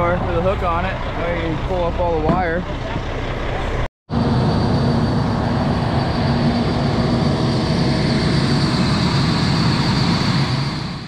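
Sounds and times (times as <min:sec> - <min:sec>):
machinery engine humming: 0:00.0 - 0:10.9.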